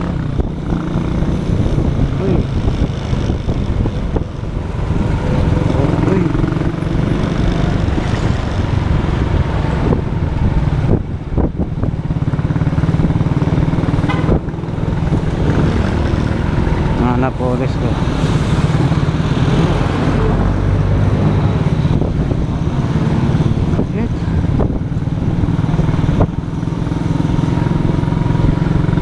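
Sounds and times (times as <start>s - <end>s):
motorcycle engine rumble: 0.0s - 29.0s
road and wind noise: 0.0s - 29.0s.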